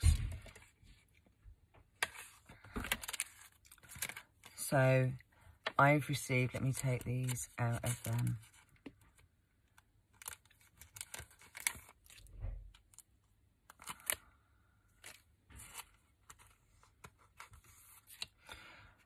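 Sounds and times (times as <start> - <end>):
plastic sleeves crinkling: 2.0 - 18.7.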